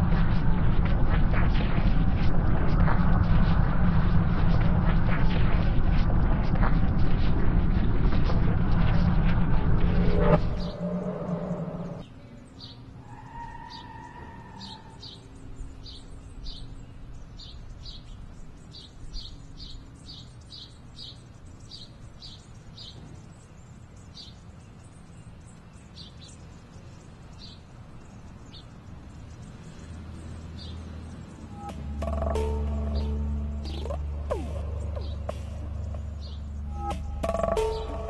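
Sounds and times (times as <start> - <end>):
low outdoor background: 0.0 - 38.0.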